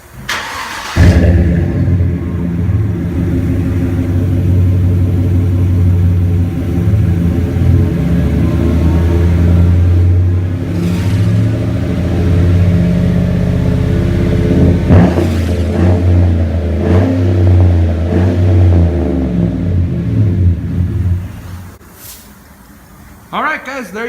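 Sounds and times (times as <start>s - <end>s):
truck engine rumbling and revving: 0.0s - 23.3s.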